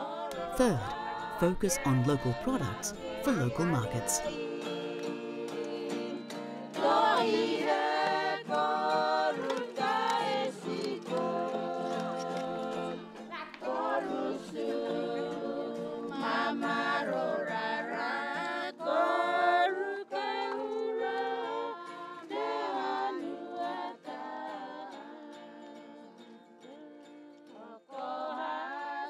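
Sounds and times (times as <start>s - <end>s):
a cappella group singing: 0.0s - 29.0s.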